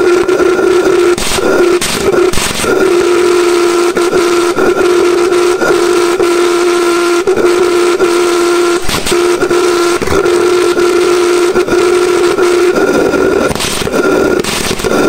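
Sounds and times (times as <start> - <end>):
pulse jet engine buzzing: 0.0 - 15.0.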